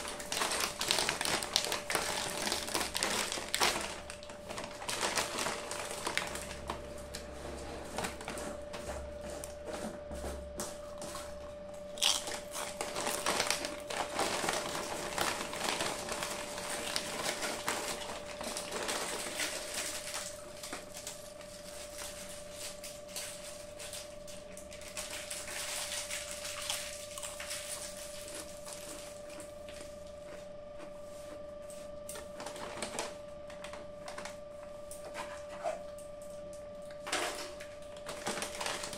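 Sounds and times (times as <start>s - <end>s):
chip packet crinkling: 0.0s - 9.6s, 11.0s - 30.3s, 32.1s - 35.8s, 36.9s - 38.9s.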